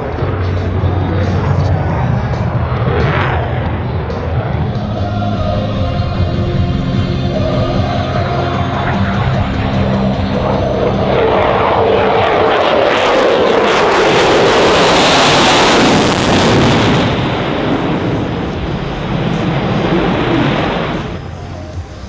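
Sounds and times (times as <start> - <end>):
aircraft engines passing overhead: 0.0 - 22.0.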